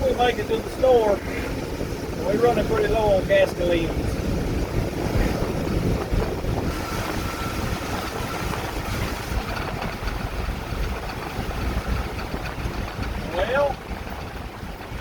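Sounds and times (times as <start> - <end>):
engine and road rumble: 0.0 - 15.0
wind buffeting microphone: 0.0 - 15.0.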